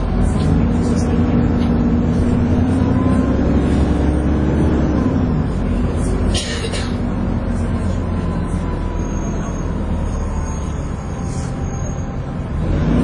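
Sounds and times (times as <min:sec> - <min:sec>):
bus engine whining: 0:00.0 - 0:13.0.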